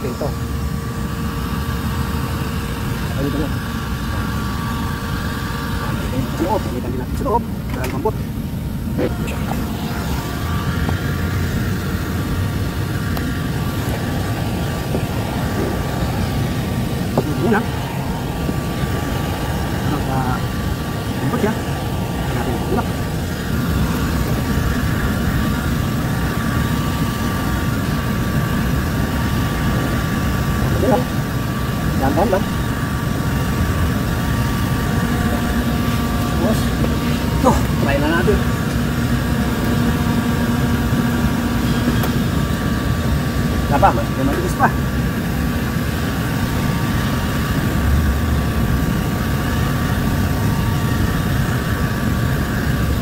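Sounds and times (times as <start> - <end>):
faint motor whine: 0.0 - 53.0.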